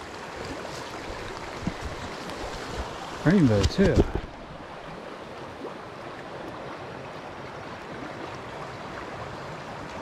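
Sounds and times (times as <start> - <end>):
shallow stream flowing: 0.0 - 10.0.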